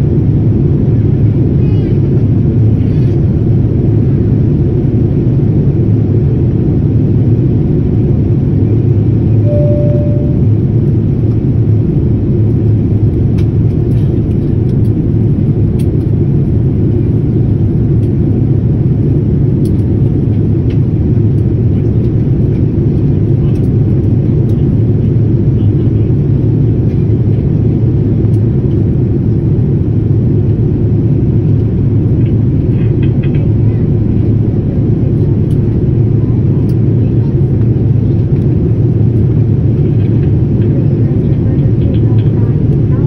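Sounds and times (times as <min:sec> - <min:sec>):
jet engines rumbling in cabin: 0:00.0 - 0:43.0.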